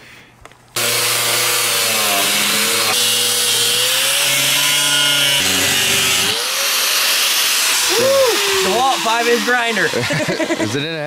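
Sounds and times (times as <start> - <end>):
angle grinder cutting metal: 0.8 - 11.0.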